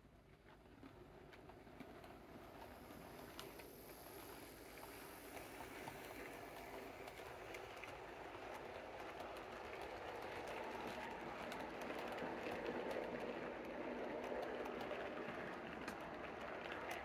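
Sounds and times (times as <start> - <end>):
model train wheels rumbling: 0.2 - 17.0.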